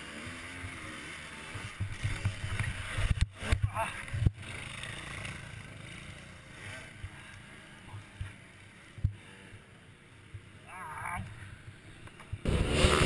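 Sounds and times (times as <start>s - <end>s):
muffled dirt bike engine: 0.0s - 13.0s.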